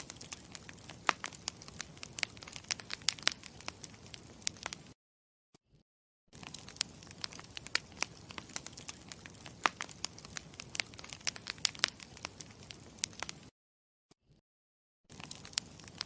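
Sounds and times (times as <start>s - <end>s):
campfire crackling and popping: 0.0s - 5.0s, 6.4s - 13.5s, 15.1s - 16.0s.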